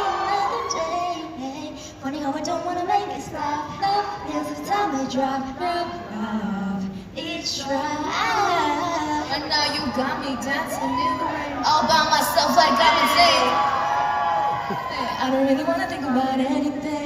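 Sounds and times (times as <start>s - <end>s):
women singing pop melody: 0.0s - 13.6s, 14.7s - 17.0s.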